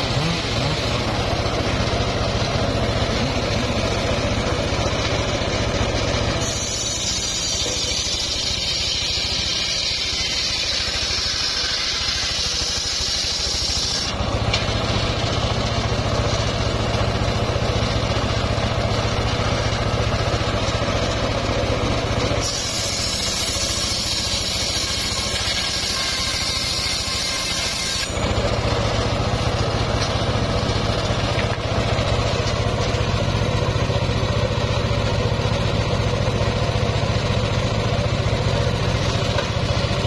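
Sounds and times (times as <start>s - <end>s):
engine drone: 0.0s - 40.0s
saw blade cutting wood: 0.0s - 40.0s.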